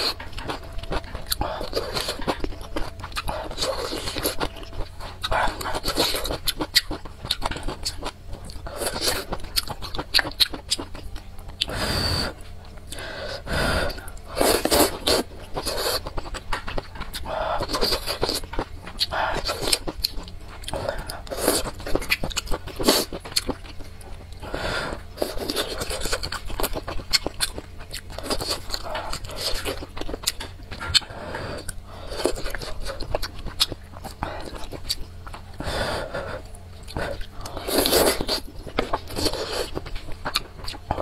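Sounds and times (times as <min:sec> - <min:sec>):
person chewing noodles: 0:00.0 - 0:41.0.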